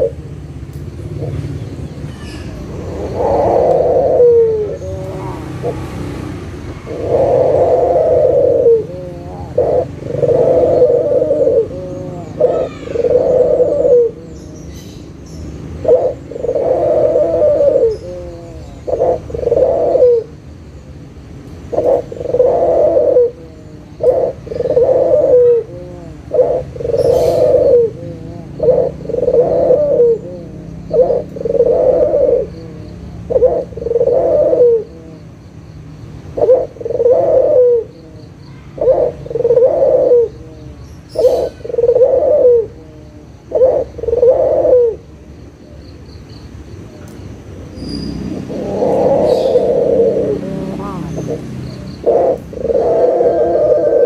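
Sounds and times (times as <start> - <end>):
dove cooing: 0.0 - 20.6, 21.6 - 35.6, 36.2 - 45.8, 46.9 - 54.0.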